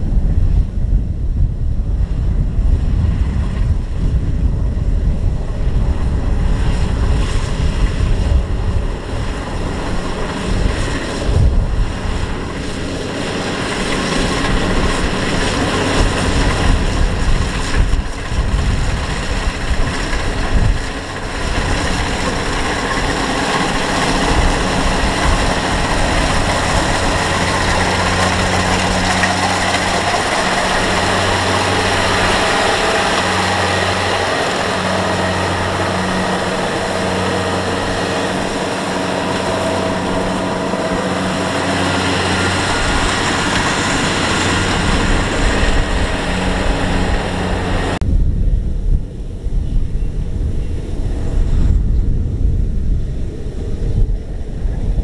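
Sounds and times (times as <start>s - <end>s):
diesel engine hum: 0.0s - 48.1s
cutting and threshing machinery: 2.8s - 48.1s.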